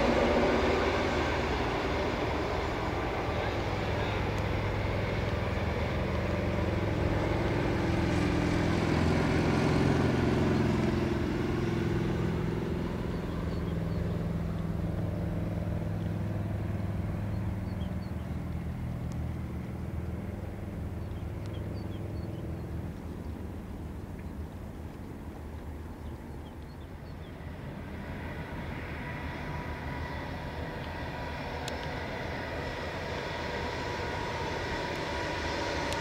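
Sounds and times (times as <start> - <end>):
diesel locomotive engine droning: 0.0 - 36.0.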